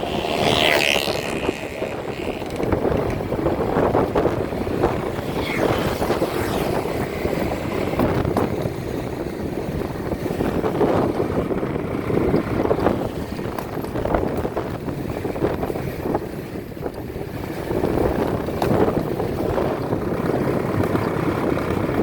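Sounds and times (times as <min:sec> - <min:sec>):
continuous rumbling noise: 0:00.0 - 0:22.0
wind buffeting microphone: 0:00.0 - 0:22.0.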